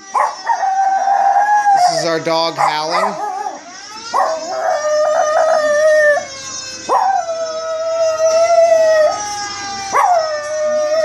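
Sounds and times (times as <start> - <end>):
dog howling: 0.0 - 11.0
fire engine siren sound effect: 0.0 - 11.0.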